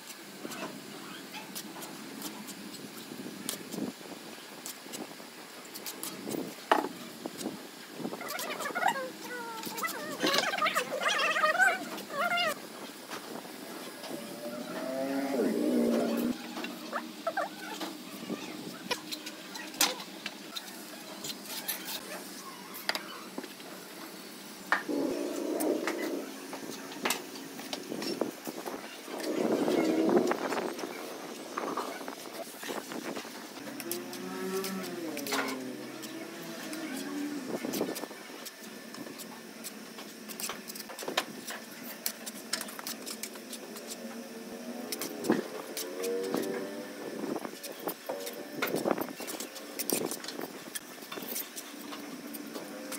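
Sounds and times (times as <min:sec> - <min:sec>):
faint steady hum: 0:02.1 - 0:52.9.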